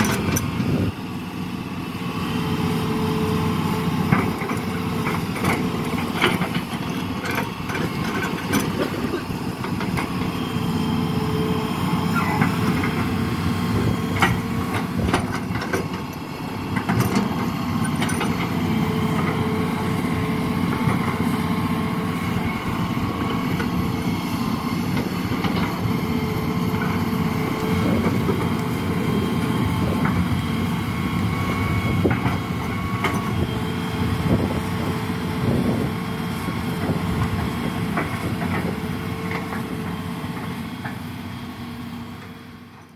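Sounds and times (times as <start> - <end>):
diesel engine running: 0.0 - 42.9
hydraulic whine: 0.0 - 42.9.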